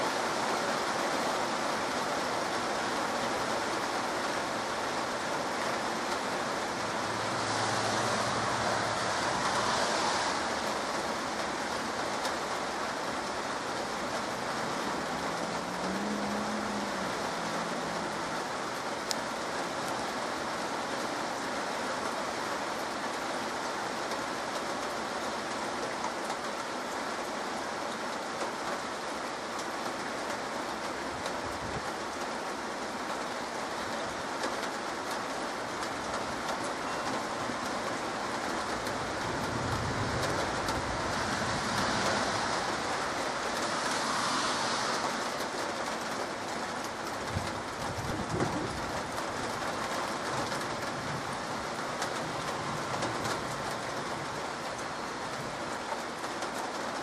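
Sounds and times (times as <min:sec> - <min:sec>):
heavy rain on leaves and roofs: 0:00.0 - 0:57.0.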